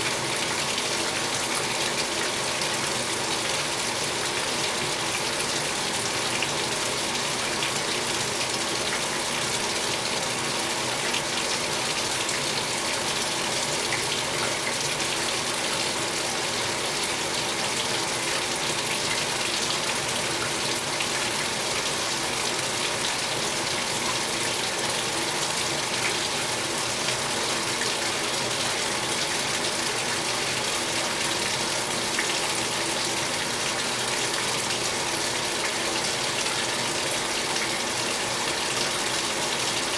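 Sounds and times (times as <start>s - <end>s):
washing machine filling with water: 0.0s - 39.9s.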